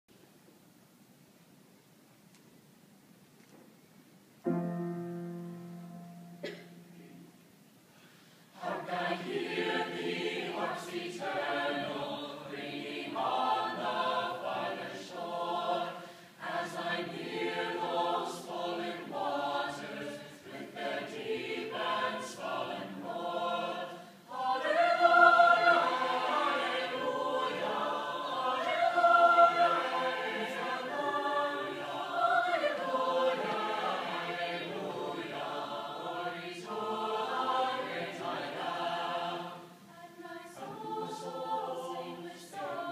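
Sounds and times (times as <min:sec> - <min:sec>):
chamber choir singing: 0:08.5 - 0:42.9.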